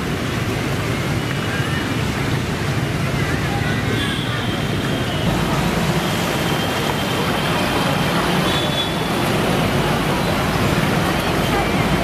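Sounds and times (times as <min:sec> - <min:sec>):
traffic on a wet road: 0:00.0 - 0:12.0.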